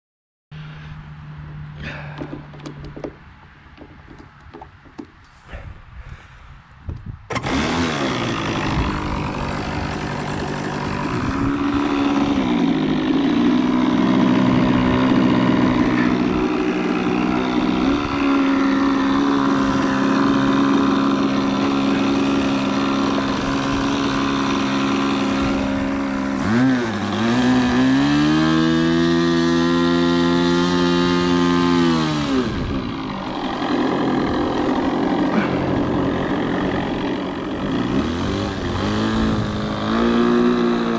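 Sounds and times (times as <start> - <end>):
model airplane engine running: 7.3 - 40.9.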